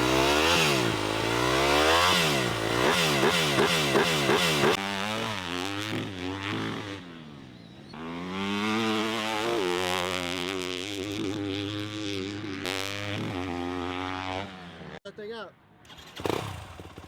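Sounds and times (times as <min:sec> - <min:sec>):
dirt bike engine revving: 0:00.0 - 0:07.3, 0:08.0 - 0:15.0, 0:15.9 - 0:17.0.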